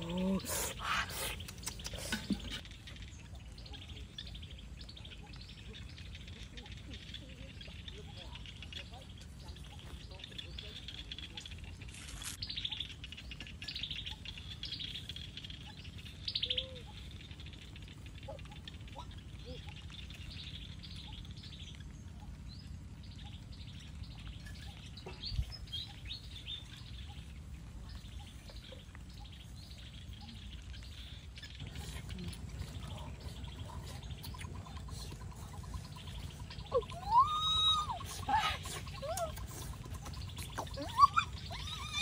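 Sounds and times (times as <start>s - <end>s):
small birds chirping and trilling: 0.0s - 42.0s
steady low background noise: 0.0s - 42.0s.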